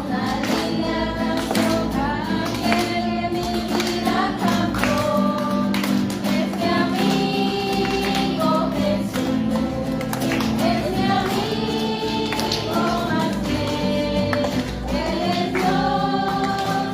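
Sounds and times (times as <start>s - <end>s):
instrumental accompaniment: 0.0s - 16.9s
voices singing: 0.0s - 16.9s.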